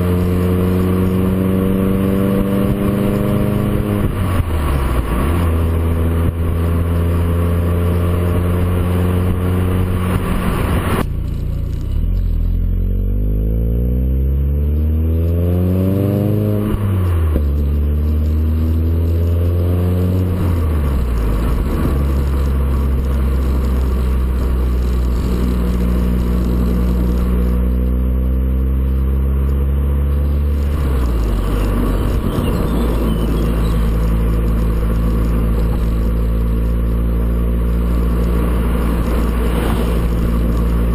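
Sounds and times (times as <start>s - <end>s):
car engine revving and idling: 0.0s - 40.9s.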